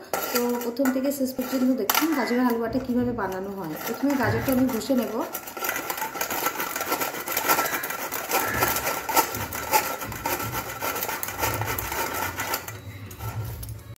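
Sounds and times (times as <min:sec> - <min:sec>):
carrot grated on metal grater: 0:00.0 - 0:14.0.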